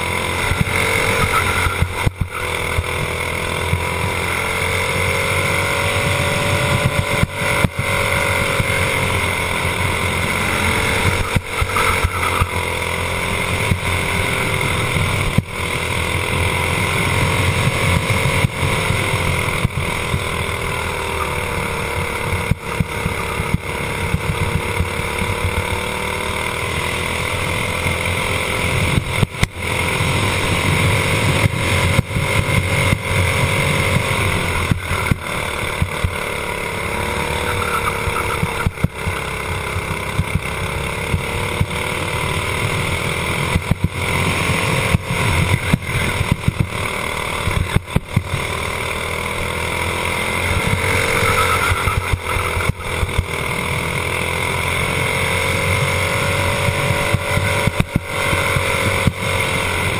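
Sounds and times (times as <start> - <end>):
kart engine running: 0.0 - 59.9.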